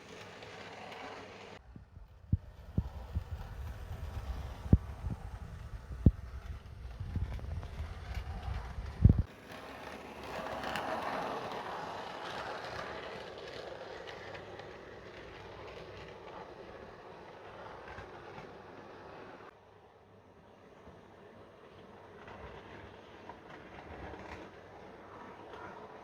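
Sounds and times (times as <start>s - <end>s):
model train rolling whirr: 0.0s - 26.0s.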